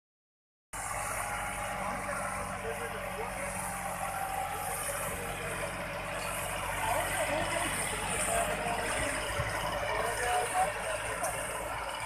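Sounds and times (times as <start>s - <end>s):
tractor diesel engine droning: 0.8s - 12.0s.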